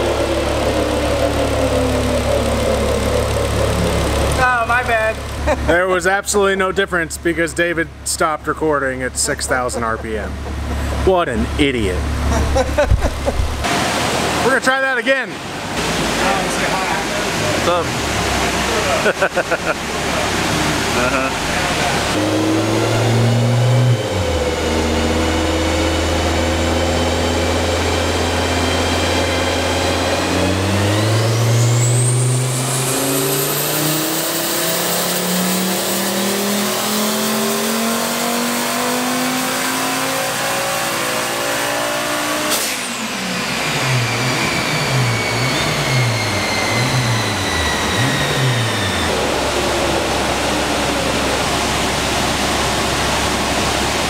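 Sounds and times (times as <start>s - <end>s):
turbocharged engine revving: 0.0s - 54.0s.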